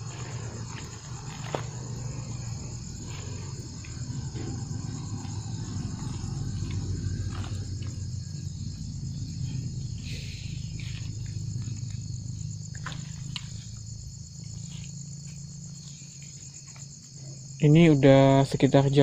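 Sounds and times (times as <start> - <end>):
low steady hum: 0.0 - 17.6
crickets trilling: 0.0 - 19.0.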